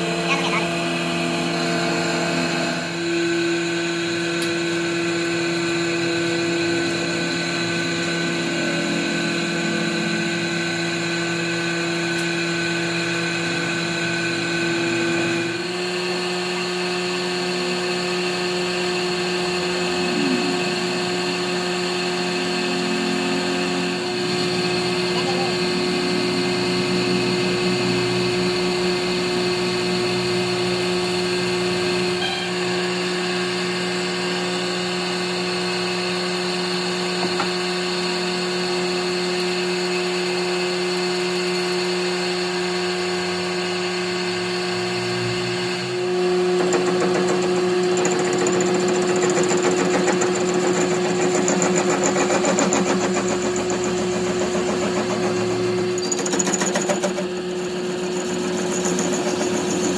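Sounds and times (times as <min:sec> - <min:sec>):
metal lathe running: 0:00.0 - 0:59.9.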